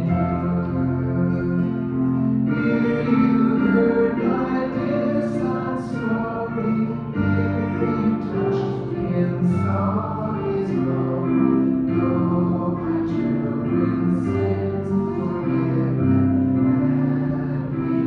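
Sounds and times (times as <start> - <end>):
choir singing sustained chords: 0.0 - 18.0
instrumental accompaniment: 0.0 - 18.0.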